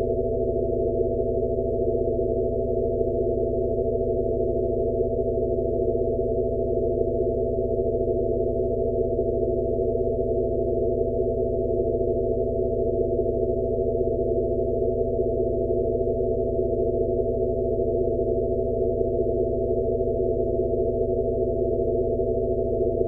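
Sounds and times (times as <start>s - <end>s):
steady electronic sine tones: 0.0s - 23.0s.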